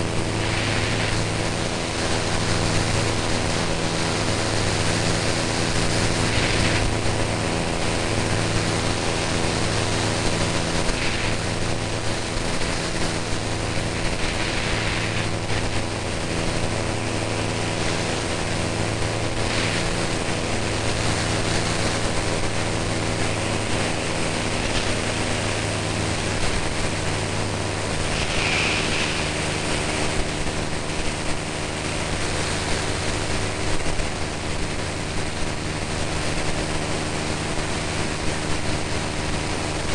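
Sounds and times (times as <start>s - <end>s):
rushing air hiss: 0.0s - 33.5s
propeller aircraft engine droning: 0.0s - 39.9s.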